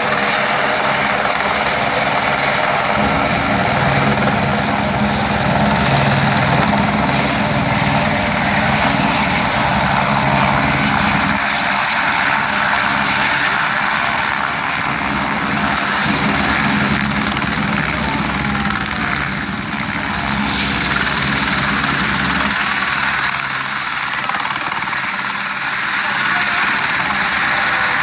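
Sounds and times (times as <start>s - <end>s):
helicopter turbine and rotor: 0.0s - 28.0s.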